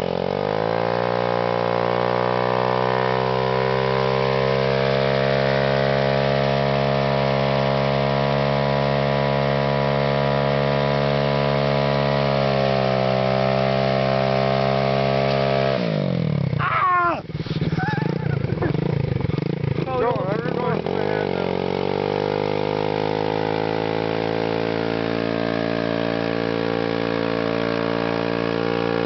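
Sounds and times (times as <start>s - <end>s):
pit bike engine revving: 0.0s - 29.0s.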